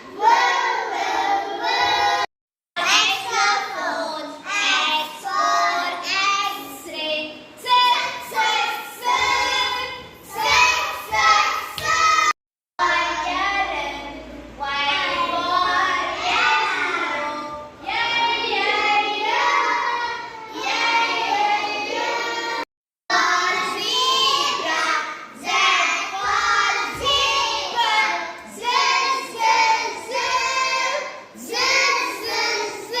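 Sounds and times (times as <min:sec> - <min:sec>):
young children singing: 0:00.0 - 0:33.0.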